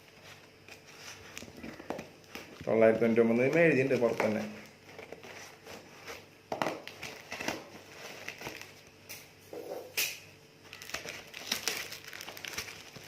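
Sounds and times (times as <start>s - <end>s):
packaging rustling and crinkling: 0.0s - 9.0s, 10.6s - 13.0s.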